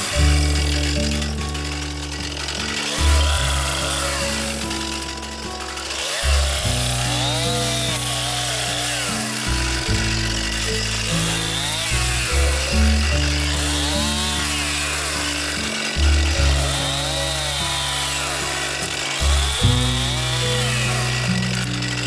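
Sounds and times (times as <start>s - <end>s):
background music with bass: 0.0s - 22.0s
chainsaw revving and cutting: 0.0s - 22.0s.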